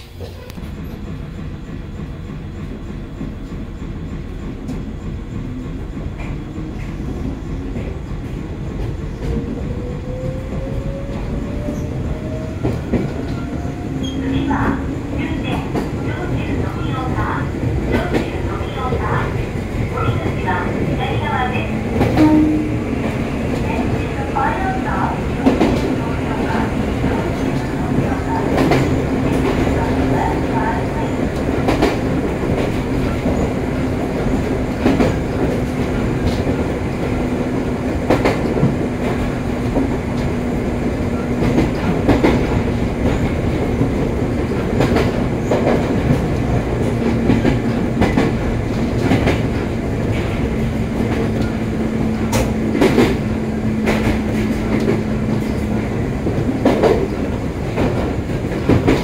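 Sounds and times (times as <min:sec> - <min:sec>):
train motor hum: 0:00.0 - 0:59.0
train wheels rumbling: 0:00.0 - 0:59.0.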